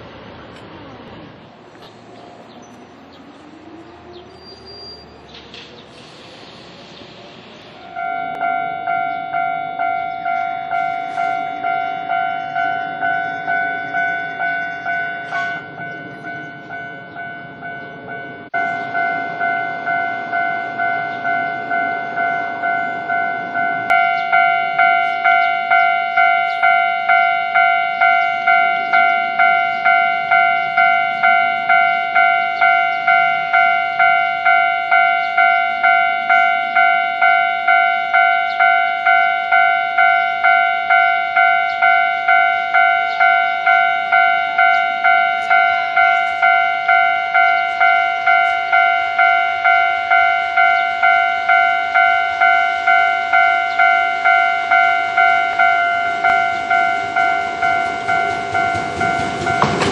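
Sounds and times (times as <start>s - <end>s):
faint electric train running: 0.0s - 59.9s
level crossing warning bell: 7.8s - 59.9s.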